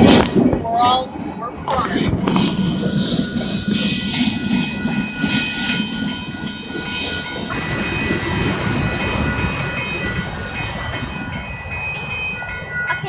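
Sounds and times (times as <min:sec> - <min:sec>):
train wheels rumbling on rail: 0:00.0 - 0:13.0
clickety-clack of wheels: 0:01.7 - 0:13.0.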